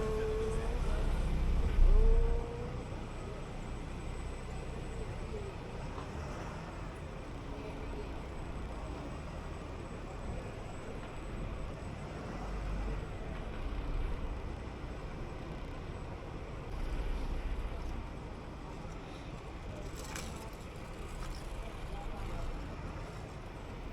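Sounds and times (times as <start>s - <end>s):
bus engine rumble: 0.0s - 23.9s
road noise: 0.0s - 23.9s.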